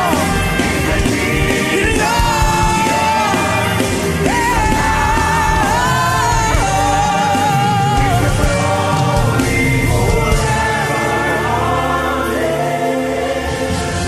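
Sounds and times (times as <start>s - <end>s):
gospel band with steady bass: 0.0s - 14.0s.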